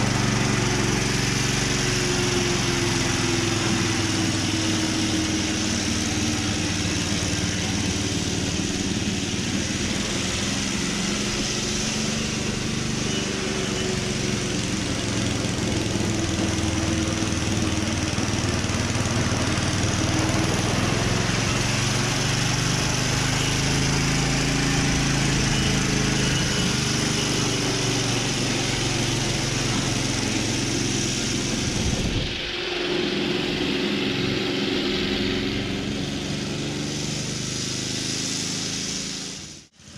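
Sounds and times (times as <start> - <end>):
petrol lawn mower running: 0.0 - 39.9.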